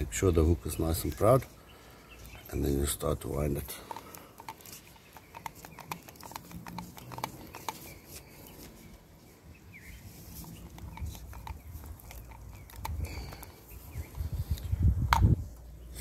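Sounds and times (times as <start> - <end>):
small handling clicks and rustles: 0.0 - 16.0.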